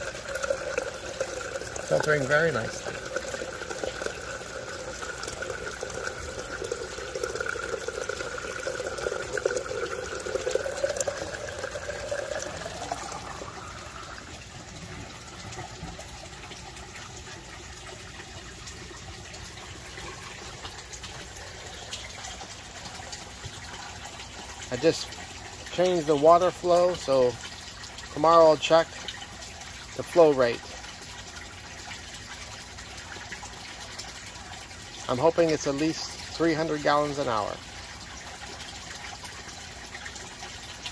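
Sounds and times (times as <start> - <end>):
water draining into pipe: 0.0 - 40.9.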